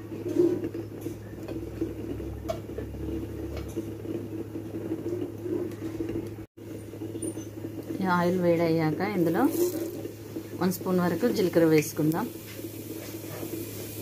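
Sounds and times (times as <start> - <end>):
oil heating low hum: 0.0 - 14.0.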